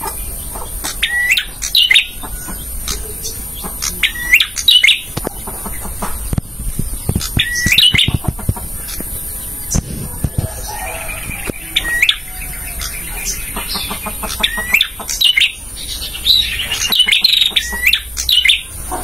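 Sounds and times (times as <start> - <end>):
dry clicking bird notes: 0.0 - 10.5, 11.4 - 15.6, 16.7 - 18.7
bird sharp rising chirps: 0.2 - 18.8.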